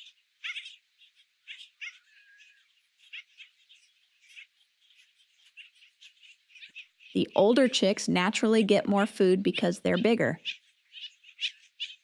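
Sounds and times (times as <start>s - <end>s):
bird chicks begging calls: 0.0s - 7.9s, 8.5s - 12.0s.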